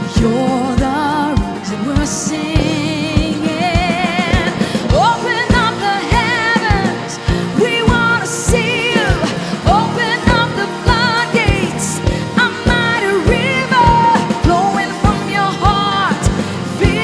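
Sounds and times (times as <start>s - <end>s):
bending melodic lead line: 0.0s - 17.0s
worship band music: 0.0s - 17.0s.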